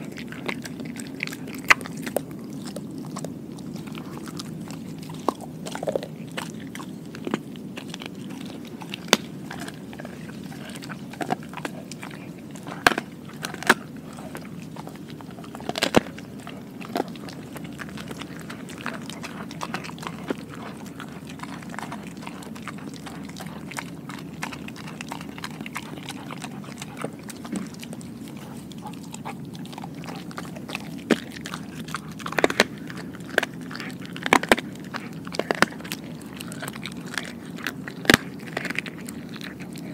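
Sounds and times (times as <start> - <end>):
dog chewing meat: 0.0 - 39.9.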